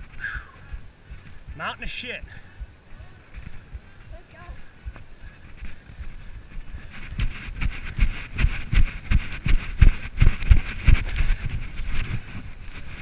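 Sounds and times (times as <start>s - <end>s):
running footsteps: 0.0s - 13.0s.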